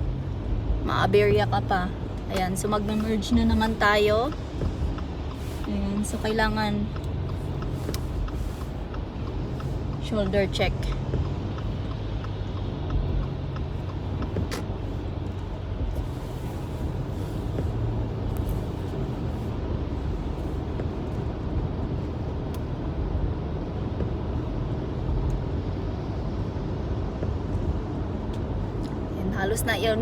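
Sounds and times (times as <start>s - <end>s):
car engine hum: 0.0s - 30.0s
tyre road rumble: 0.0s - 30.0s.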